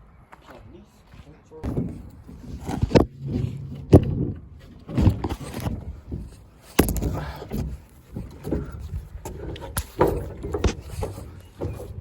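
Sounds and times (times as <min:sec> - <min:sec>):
sharp knocks and scrapes: 0:01.6 - 0:12.0.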